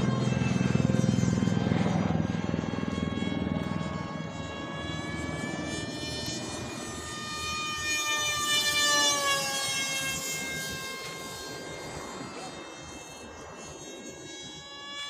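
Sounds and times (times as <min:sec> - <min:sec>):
model jet electric motor whining: 0:00.0 - 0:15.0.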